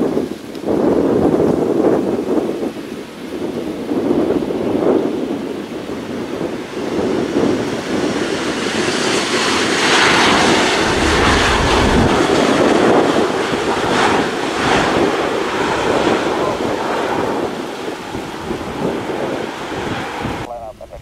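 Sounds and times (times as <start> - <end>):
jet engines roaring: 0.0 - 20.6.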